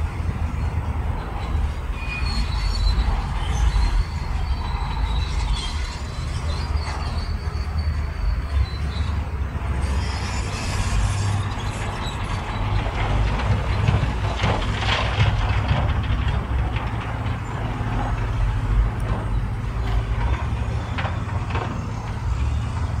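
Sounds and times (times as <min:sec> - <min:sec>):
heavy machinery diesel engine: 0:00.0 - 0:23.0.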